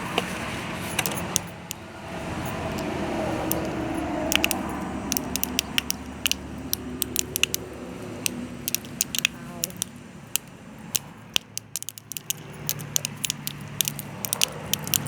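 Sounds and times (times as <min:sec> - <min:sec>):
objects popping in water: 0:01.0 - 0:01.8, 0:02.7 - 0:15.0.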